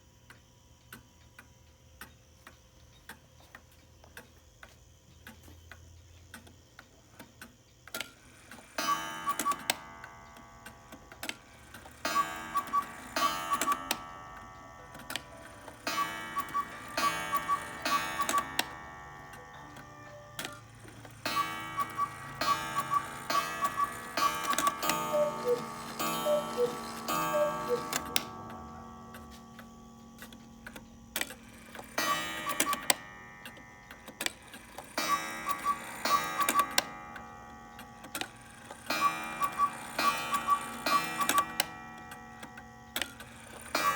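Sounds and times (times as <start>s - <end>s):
cuckoo clock calls: 8.2s - 43.9s
clock ticking: 8.5s - 43.9s.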